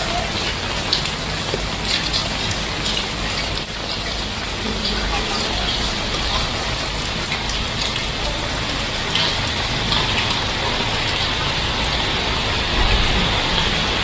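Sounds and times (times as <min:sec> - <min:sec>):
heavy rain: 0:00.0 - 0:14.0
sharp raindrops: 0:00.0 - 0:14.0.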